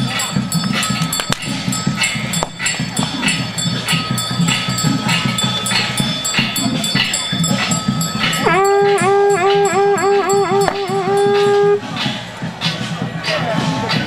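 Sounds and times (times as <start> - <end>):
loud reed wind instrument: 0.0 - 14.0
percussion beat: 0.0 - 14.0.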